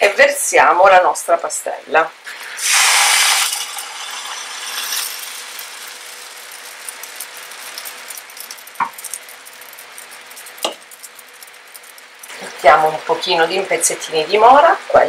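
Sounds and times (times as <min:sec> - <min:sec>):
batter sizzling in a frying pan: 0:02.2 - 0:14.8.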